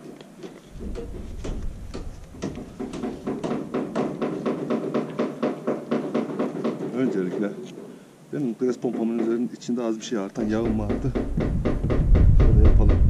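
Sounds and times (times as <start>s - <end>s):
grease gun metallic taps: 0.1s - 13.0s.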